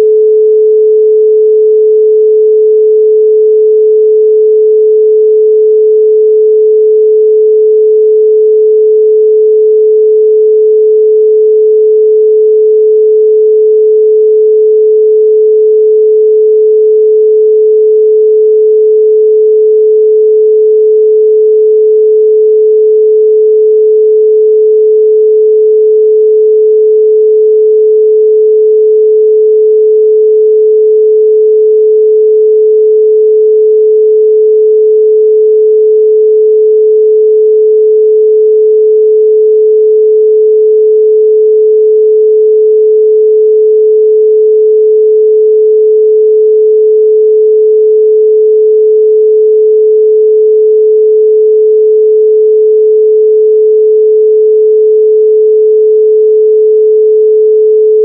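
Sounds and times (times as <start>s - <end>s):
pure sine tone: 0.0s - 58.0s.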